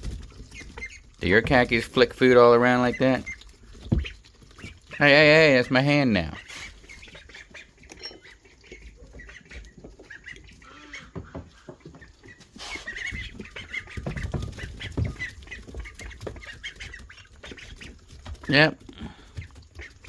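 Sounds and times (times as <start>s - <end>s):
ducks quacking softly: 0.5s - 20.0s.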